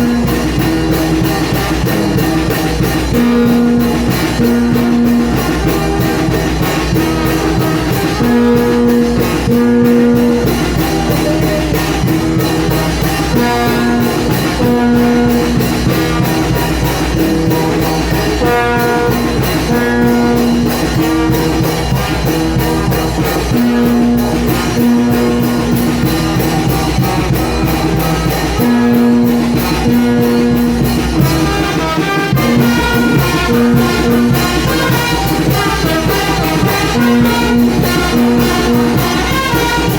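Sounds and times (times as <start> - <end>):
brass band playing: 0.0 - 39.9
held horn notes: 0.0 - 39.9
steady drum beat: 0.0 - 39.9.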